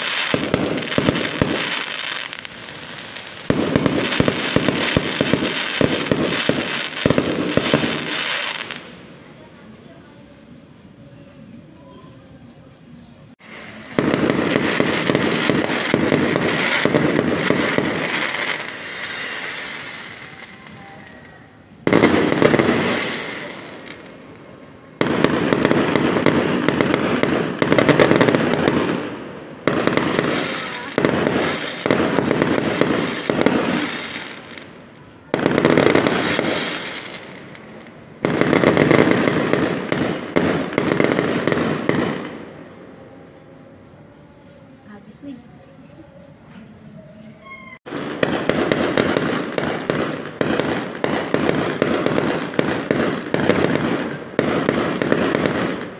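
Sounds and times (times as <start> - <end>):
firework bursts: 0.0 - 55.9
firework crackling: 0.0 - 55.9.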